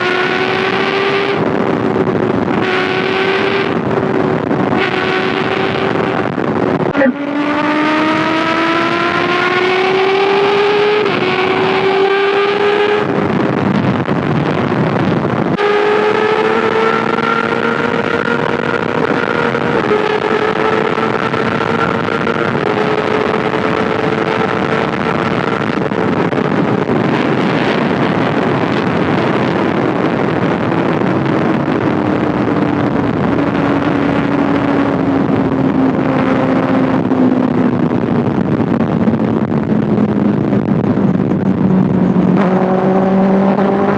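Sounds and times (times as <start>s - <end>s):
motorcycle engine revving: 0.0s - 43.9s
wind rush on microphone: 0.0s - 43.9s.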